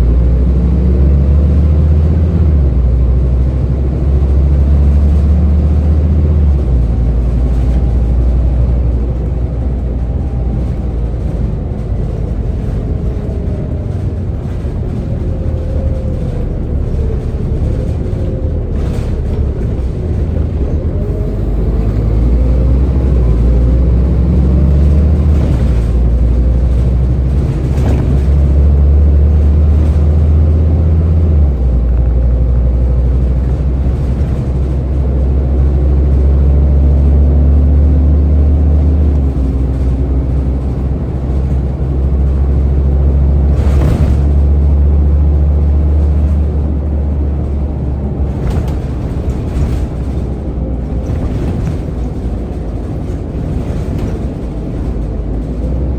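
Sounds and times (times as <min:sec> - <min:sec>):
bus engine droning: 0:00.0 - 0:55.9
clunks and rattles of bus body: 0:00.0 - 0:55.9.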